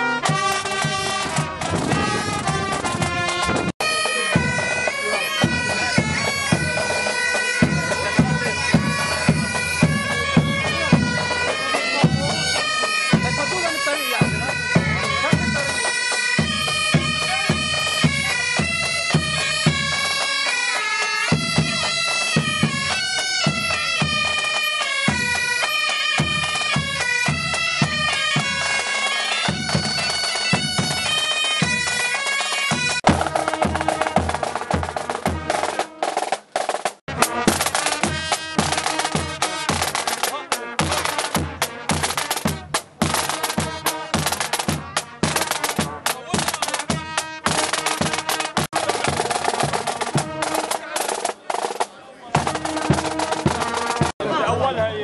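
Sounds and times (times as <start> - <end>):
bagpipes playing a march: 0.0 - 54.2
drum beat: 0.0 - 54.2.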